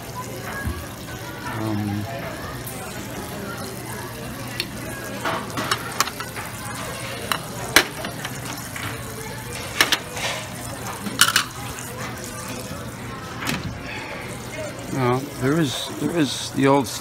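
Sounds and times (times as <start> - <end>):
restaurant noise: 0.0 - 17.0.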